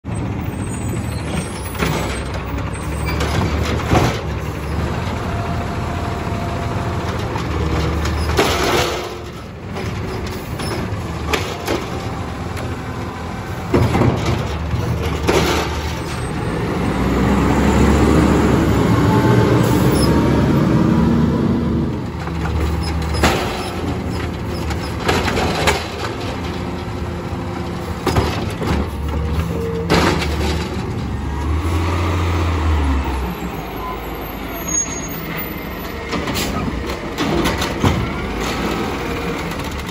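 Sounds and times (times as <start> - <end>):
hydraulic arm and cart clunks: 0.2 - 16.8, 21.9 - 31.8, 33.2 - 39.9.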